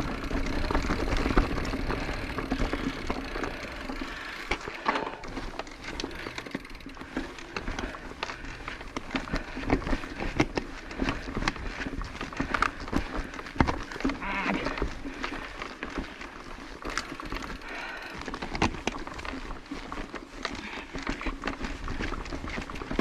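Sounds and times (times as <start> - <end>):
bike clicks and knocks: 0.0 - 23.0
bike tyres rolling on dirt: 0.0 - 23.0.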